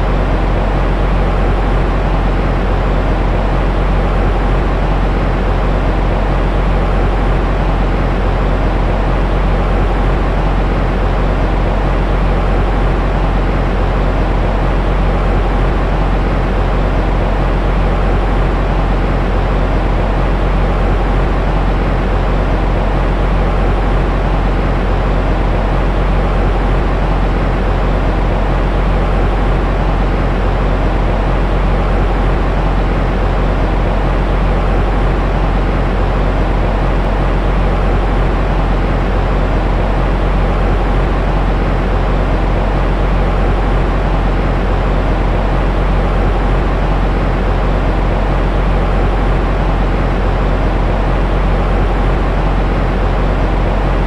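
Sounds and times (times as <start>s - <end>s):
deep rumbling white noise: 0.0s - 54.0s.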